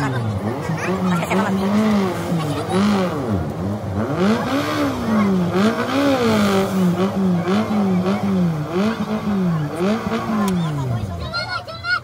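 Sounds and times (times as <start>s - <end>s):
off-road engine revving hard: 0.0s - 11.2s.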